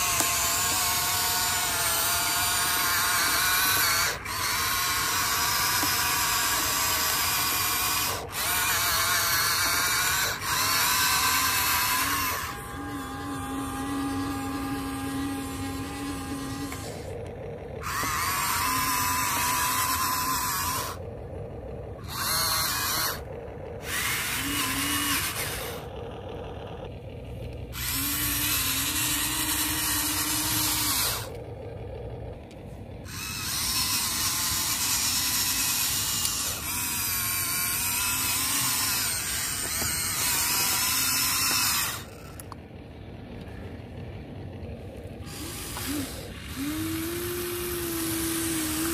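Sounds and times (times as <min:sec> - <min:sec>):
electric motors whining: 0:00.0 - 0:48.9
low hum: 0:00.0 - 0:48.9.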